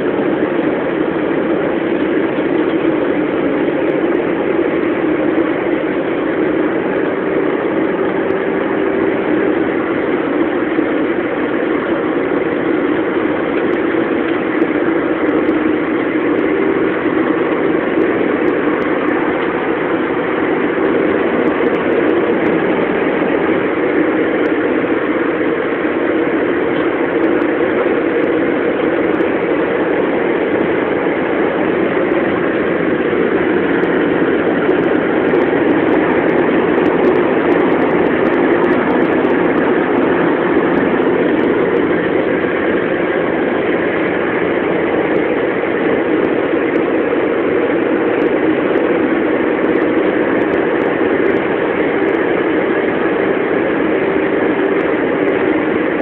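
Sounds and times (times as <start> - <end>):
car engine: 0.0 - 56.0.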